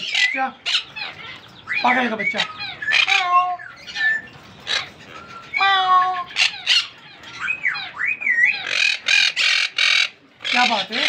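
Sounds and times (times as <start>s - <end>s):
harsh raspy squawks: 0.0s - 11.0s
parrot chicks chirping: 0.0s - 11.0s.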